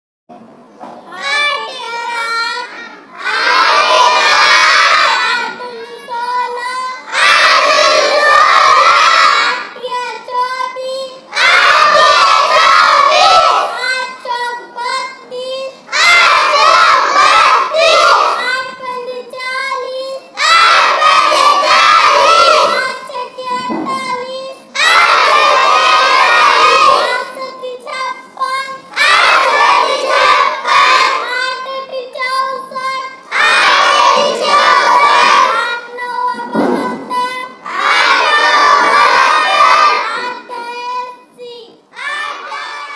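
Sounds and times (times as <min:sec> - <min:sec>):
children chanting together: 0:01.2 - 0:41.4, 0:42.0 - 0:42.9.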